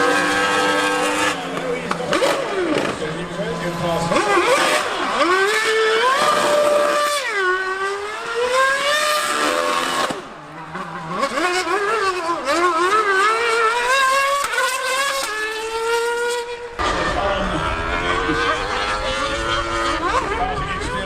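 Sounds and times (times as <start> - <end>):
racing engine revving: 0.0 - 21.0.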